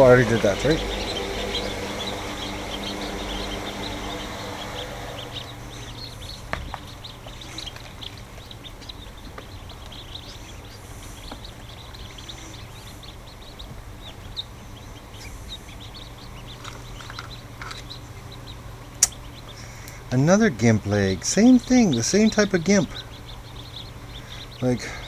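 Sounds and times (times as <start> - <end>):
ducklings peeping: 0.0 - 25.0
steady low hum: 0.0 - 25.0.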